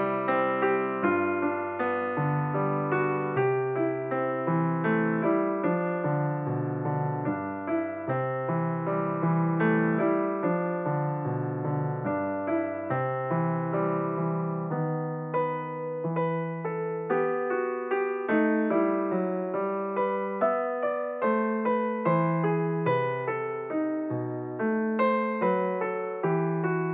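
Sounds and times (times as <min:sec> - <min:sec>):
solo piano piece: 0:00.0 - 0:26.9.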